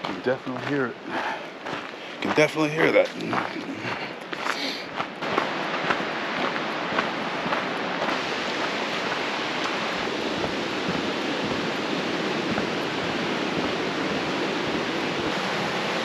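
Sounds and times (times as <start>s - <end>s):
river water rushing: 0.9s - 16.0s.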